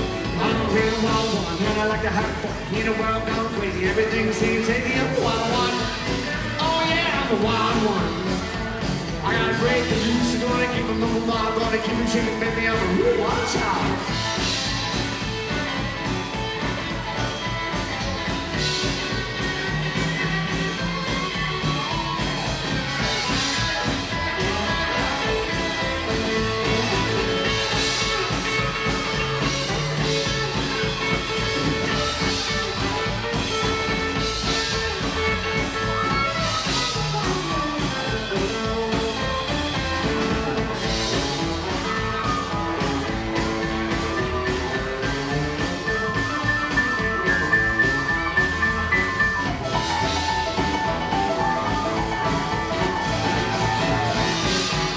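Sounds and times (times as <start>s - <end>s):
live rockabilly band: 0.0s - 54.9s.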